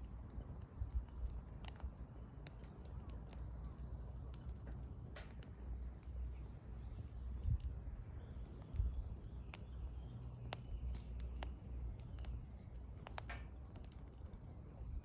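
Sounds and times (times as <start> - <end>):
campfire crackling and popping: 0.0 - 15.0
low steady rumble: 0.0 - 15.0.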